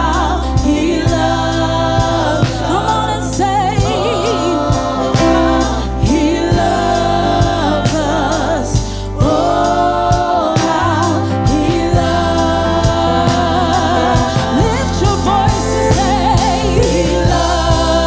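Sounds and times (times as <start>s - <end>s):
gospel singers with vibrato: 0.0s - 18.0s
steady drum beat: 0.0s - 18.0s
sustained bass notes: 0.0s - 18.0s.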